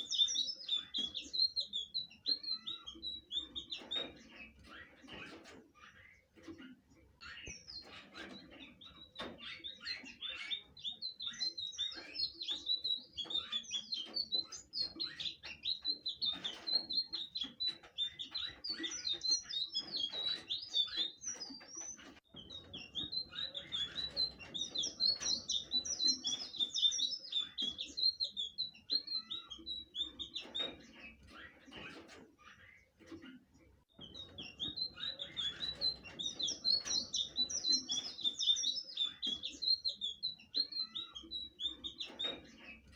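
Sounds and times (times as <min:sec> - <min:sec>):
bird singing rapid chirps and trills: 0:00.0 - 0:42.9.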